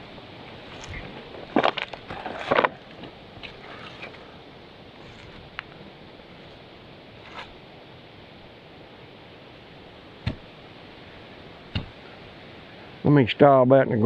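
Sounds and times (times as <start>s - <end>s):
wind hiss: 0.0s - 14.0s.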